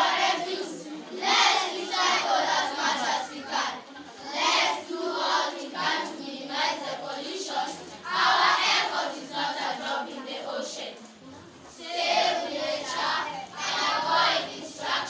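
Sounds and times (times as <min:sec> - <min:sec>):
children speaking in chorus: 0:00.0 - 0:10.8, 0:11.4 - 0:15.0.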